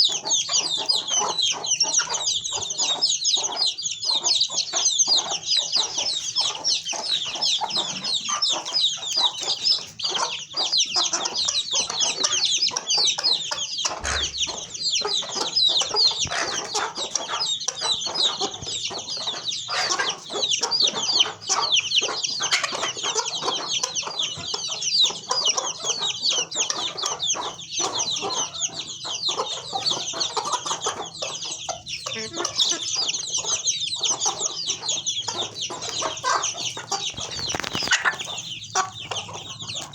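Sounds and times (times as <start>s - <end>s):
chickens clucking: 0.0s - 39.9s
chicks chirping: 0.0s - 39.9s.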